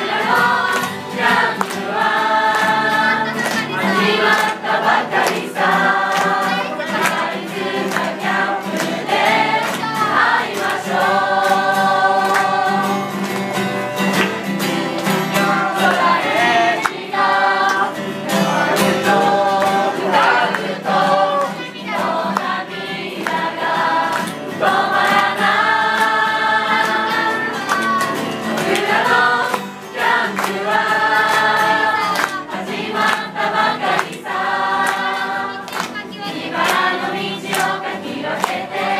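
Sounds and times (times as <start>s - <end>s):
group singing: 0.0s - 38.9s
strummed acoustic guitar: 0.0s - 38.9s.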